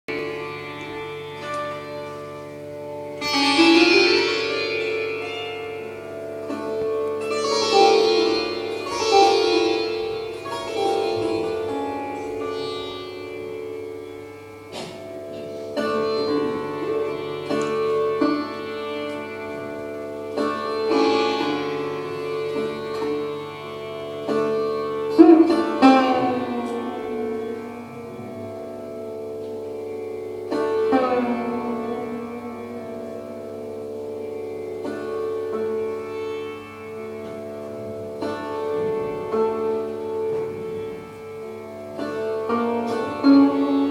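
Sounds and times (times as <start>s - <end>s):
sitar plucked notes: 0.0s - 43.9s.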